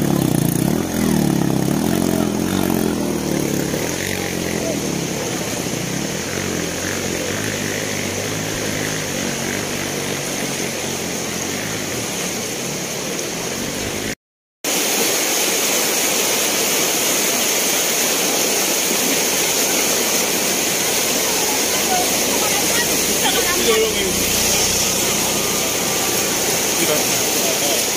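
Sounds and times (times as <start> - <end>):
motor engine running: 0.0 - 14.2, 18.4 - 27.9
steady rushing noise: 0.0 - 27.9.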